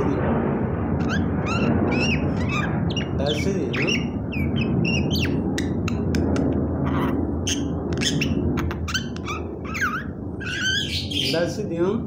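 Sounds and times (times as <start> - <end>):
low rumble: 0.0 - 12.0
myna clicking and chirping: 1.0 - 11.4.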